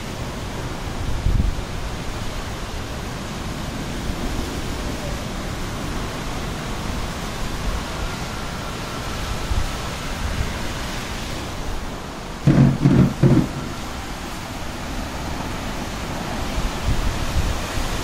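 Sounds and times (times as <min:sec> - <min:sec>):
strong wind with rain: 0:00.0 - 0:18.0.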